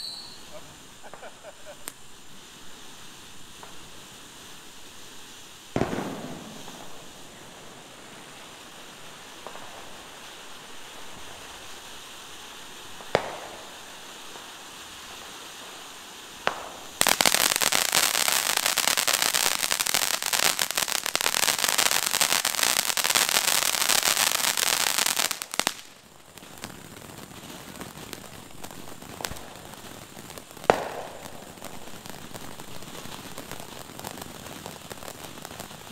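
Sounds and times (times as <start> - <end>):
fireworks fountain hissing crackle: 0.0 - 35.9.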